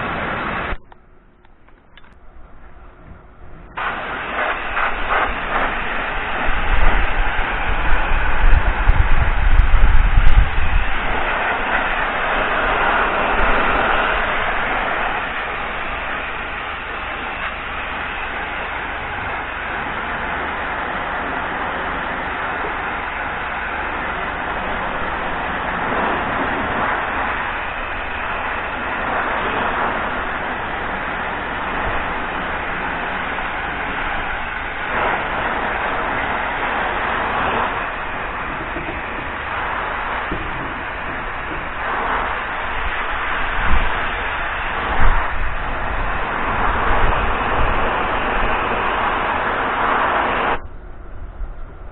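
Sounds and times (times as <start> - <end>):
pressure washer spray hissing: 0.0 - 0.8, 3.8 - 50.6
low drone: 0.0 - 51.9.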